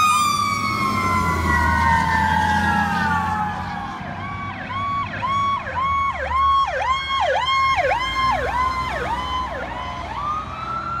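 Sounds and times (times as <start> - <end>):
siren wailing: 0.0 - 11.0
siren yelping: 0.0 - 11.0.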